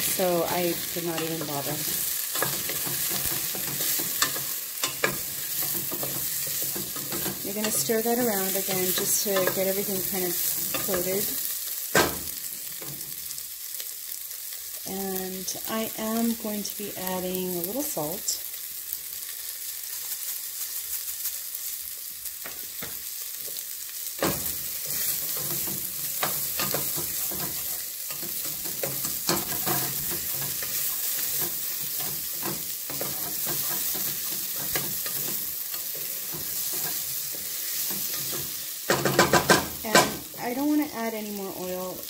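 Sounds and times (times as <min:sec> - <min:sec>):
potato and onion sizzling in oil: 0:00.0 - 0:42.0.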